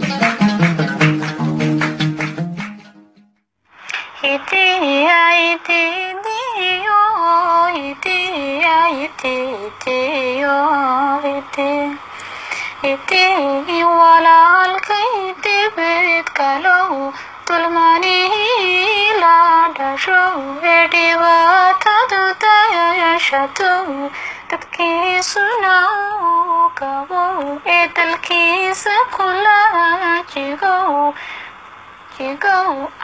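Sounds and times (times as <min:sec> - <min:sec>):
woman singing: 0:04.0 - 0:12.0, 0:12.7 - 0:31.2, 0:32.1 - 0:33.0.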